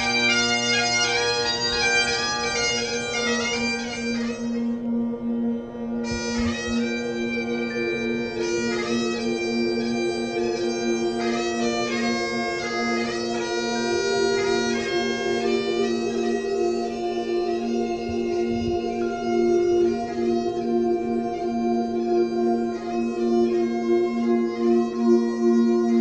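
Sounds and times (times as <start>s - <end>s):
melody over drone notes: 0.0s - 26.0s.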